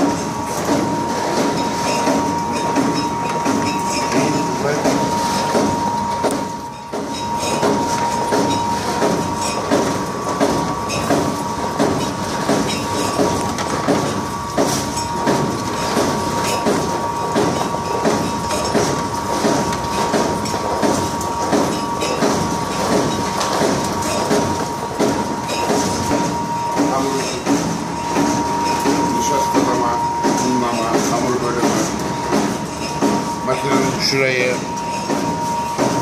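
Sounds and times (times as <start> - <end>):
constant high whine: 0.0 - 36.0
machine rhythmic clatter: 0.0 - 36.0.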